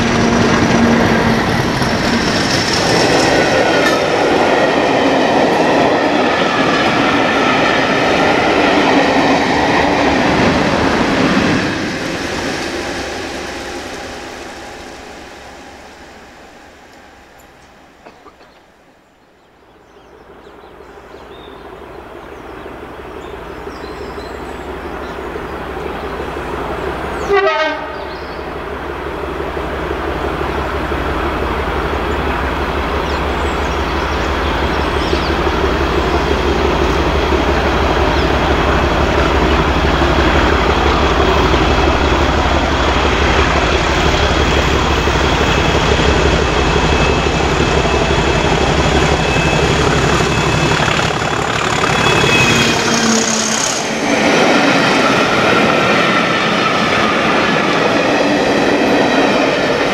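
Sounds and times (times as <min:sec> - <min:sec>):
diesel locomotive engine: 0:00.0 - 0:59.9
train wheels on rails: 0:00.0 - 0:59.9.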